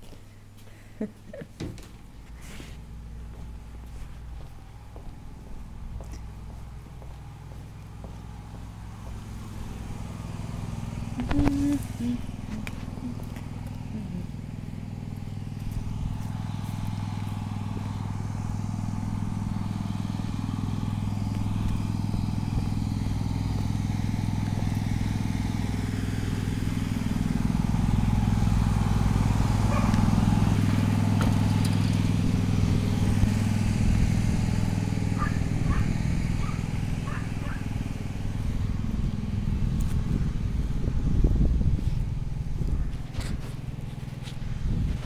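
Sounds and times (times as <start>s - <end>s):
small engine droning: 0.0s - 45.0s.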